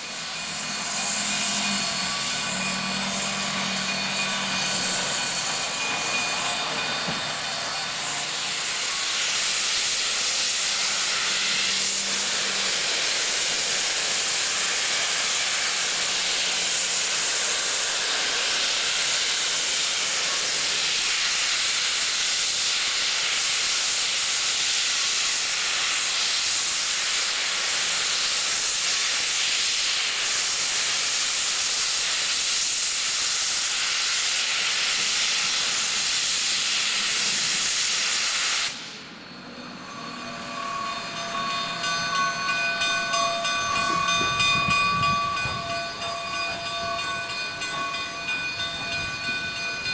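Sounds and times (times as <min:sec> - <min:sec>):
steam locomotive venting steam: 0:00.0 - 0:49.9.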